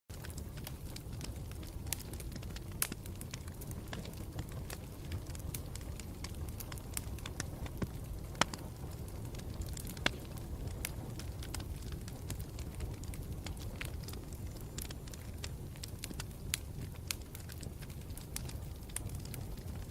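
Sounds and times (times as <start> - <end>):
campfire crackling and popping: 0.1 - 19.9.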